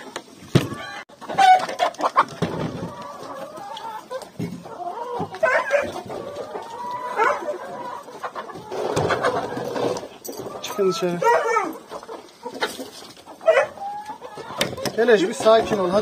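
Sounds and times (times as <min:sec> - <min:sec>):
chickens clucking: 0:00.0 - 0:16.0
chicken drawn-out call: 0:00.6 - 0:14.9.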